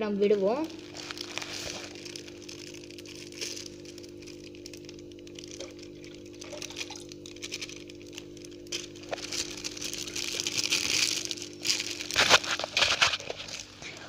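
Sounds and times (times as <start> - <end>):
plastic bag rustling and crinkling: 0.0 - 14.0
water running into jar: 0.4 - 13.8.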